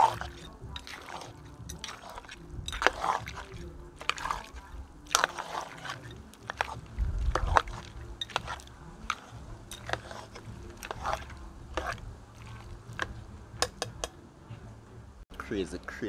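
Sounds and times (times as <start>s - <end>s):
spoon clinking against pot: 0.0s - 14.2s
gravy sloshing: 0.0s - 15.2s.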